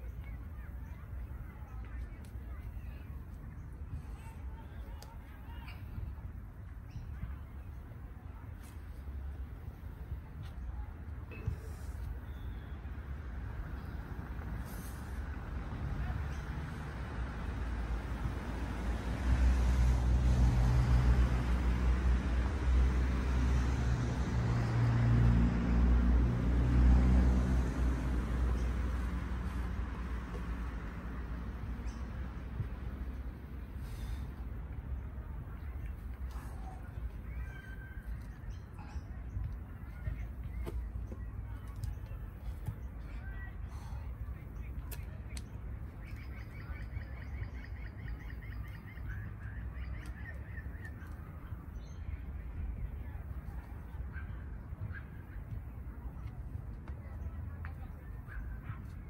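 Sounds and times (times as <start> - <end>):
road traffic engine rumble: 0.0 - 59.0
vehicle hum: 0.0 - 59.0.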